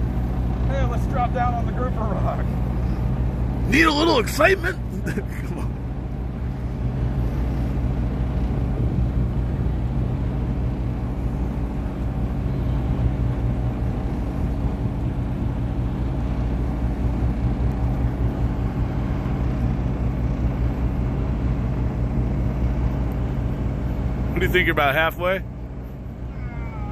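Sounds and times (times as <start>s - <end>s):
boat engine humming: 0.0s - 26.9s.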